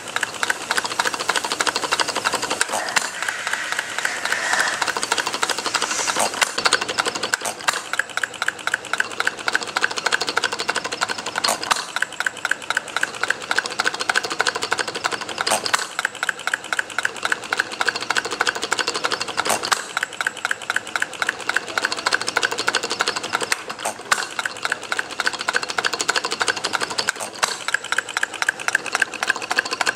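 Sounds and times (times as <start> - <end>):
small engine clicking rapidly: 0.0 - 29.9.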